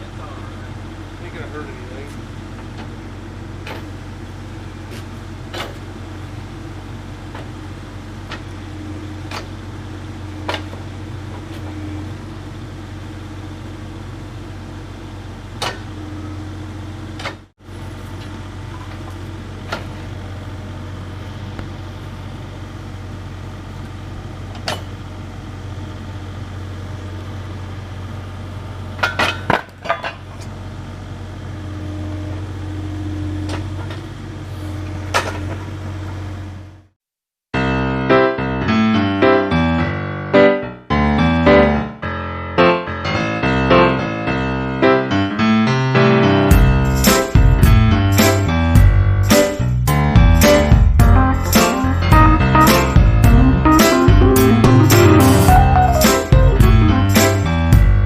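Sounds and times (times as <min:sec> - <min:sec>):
diesel engine idling: 0:00.0 - 0:29.1, 0:29.7 - 0:36.9, 0:42.6 - 0:58.0.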